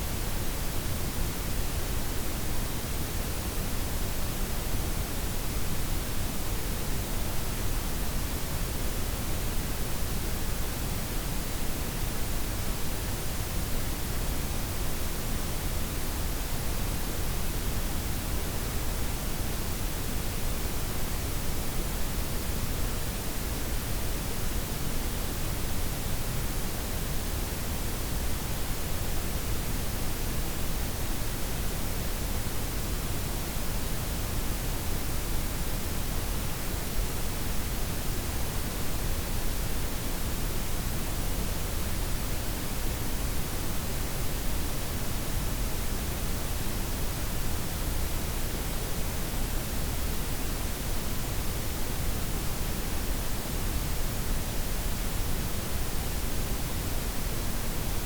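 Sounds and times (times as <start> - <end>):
steady synthetic noise hiss: 0.0 - 58.0.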